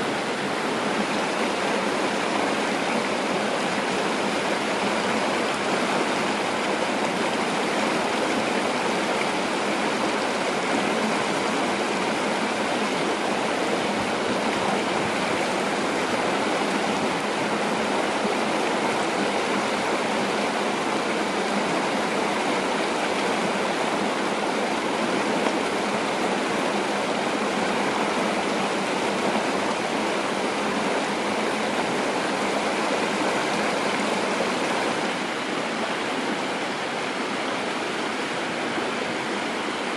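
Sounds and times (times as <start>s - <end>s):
stream rushing over rapids: 0.0s - 39.9s.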